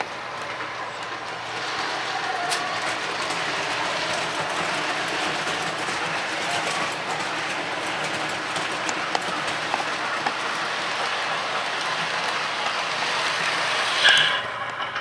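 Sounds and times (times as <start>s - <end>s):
model train motor whirring: 0.0s - 14.6s.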